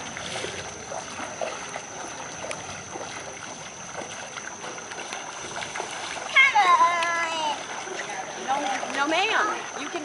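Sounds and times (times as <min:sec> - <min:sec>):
steady water wash: 0:00.0 - 0:10.0
water splashes and drips: 0:00.0 - 0:10.0.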